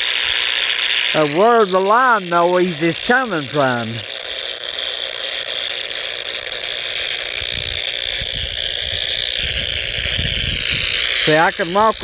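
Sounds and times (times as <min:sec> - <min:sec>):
harsh buzzing hiss from speaker: 0:00.0 - 0:12.0.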